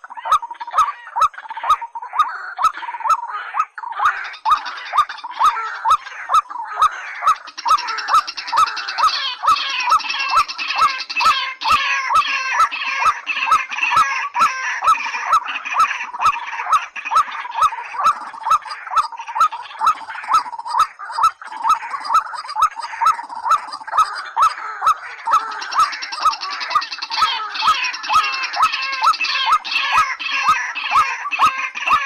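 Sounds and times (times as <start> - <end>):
chatter of higher calls: 0.0 - 32.0
waterhen short rising calls: 0.2 - 32.0.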